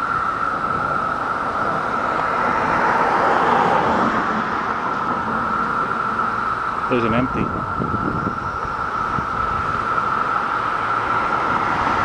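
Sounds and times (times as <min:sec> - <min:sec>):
car passing: 0:00.0 - 0:12.0
cicada chorus drone: 0:00.0 - 0:12.0.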